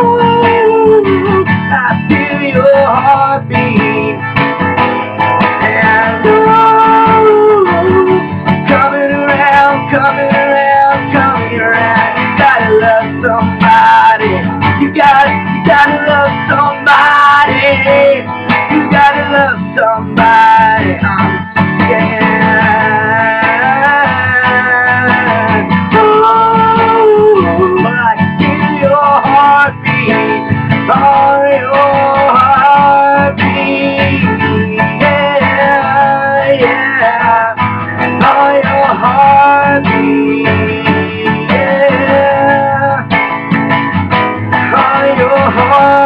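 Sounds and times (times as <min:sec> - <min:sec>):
guitar-led band music: 0:00.0 - 0:46.0.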